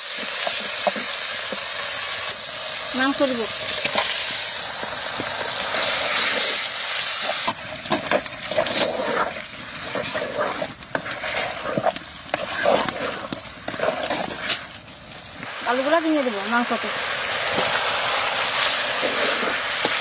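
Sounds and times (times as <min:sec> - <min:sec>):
wooden spatula scraping: 0:00.0 - 0:02.2, 0:03.0 - 0:15.5, 0:17.5 - 0:20.0
meat sizzling in hot oil: 0:00.0 - 0:20.0.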